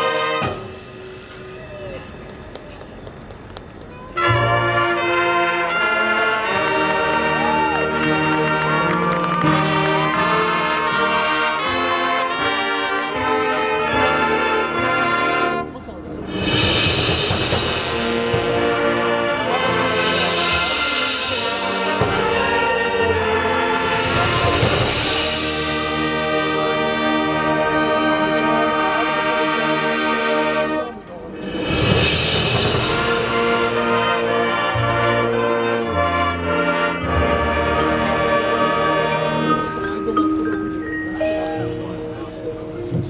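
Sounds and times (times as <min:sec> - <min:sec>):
brass sustained chords: 0:00.0 - 0:01.5, 0:04.2 - 0:43.0
marching band playing: 0:00.0 - 0:43.0.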